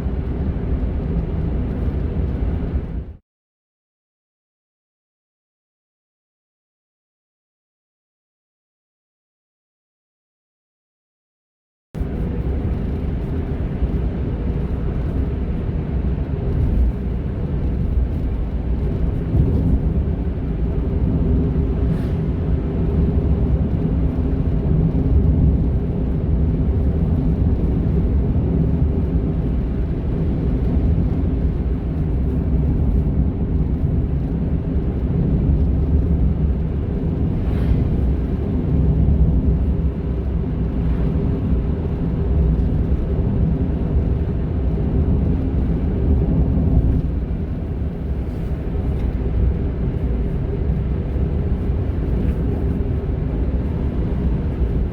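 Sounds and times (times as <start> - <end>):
car engine and road noise: 0.0 - 3.2, 12.0 - 54.9.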